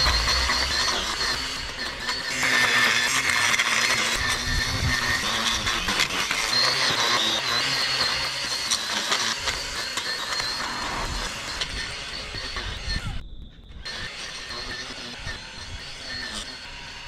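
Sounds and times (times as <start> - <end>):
lawn edger whining: 0.0 - 13.2, 13.8 - 17.0.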